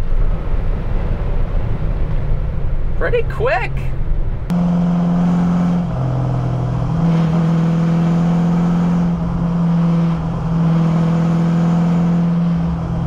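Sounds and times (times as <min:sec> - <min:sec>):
truck engine and exhaust running: 0:00.0 - 0:13.0.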